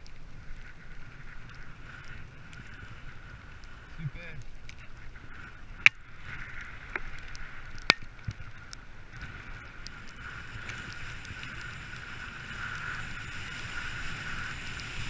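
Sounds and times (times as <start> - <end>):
faint clicks: 0.0 - 15.0.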